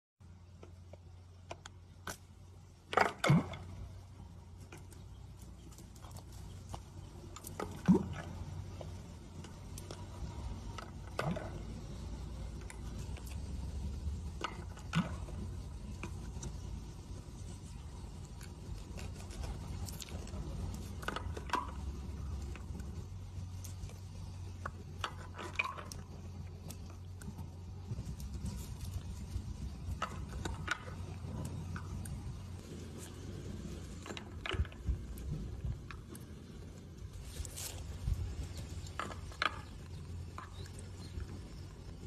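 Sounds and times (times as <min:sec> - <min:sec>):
steady low hum: 0:00.2 - 0:42.0.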